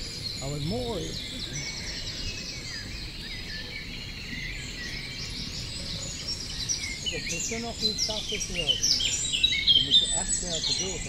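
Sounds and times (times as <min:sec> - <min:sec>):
songbirds chirping and warbling: 0:00.0 - 0:11.0.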